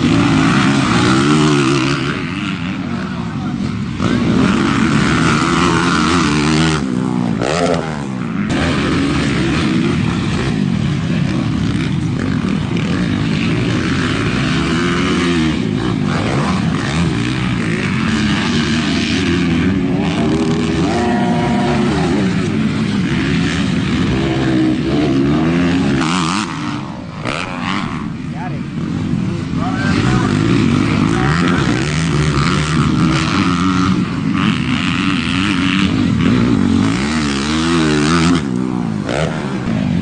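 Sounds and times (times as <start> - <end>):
dirt bike engines racing: 0.0 - 40.0.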